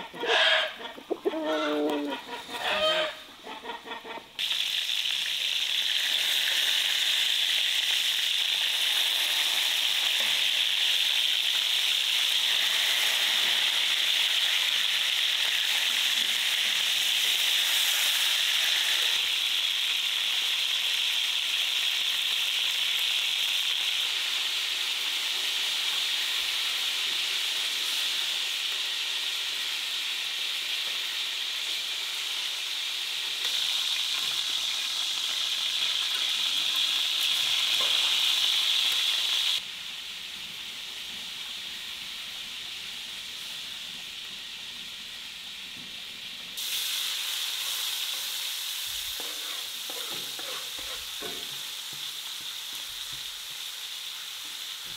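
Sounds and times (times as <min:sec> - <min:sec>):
food sizzling in oil: 0:00.0 - 0:54.9.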